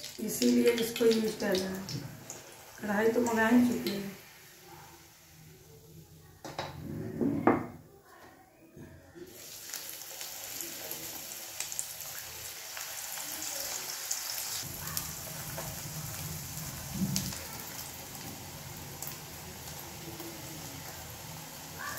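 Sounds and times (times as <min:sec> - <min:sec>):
hot oil sizzling and crackling: 0:00.0 - 0:06.5, 0:09.2 - 0:21.9.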